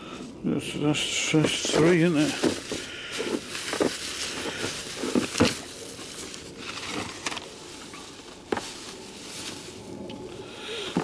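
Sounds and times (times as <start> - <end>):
bubble wrap and cardboard rustling: 1.0 - 11.0.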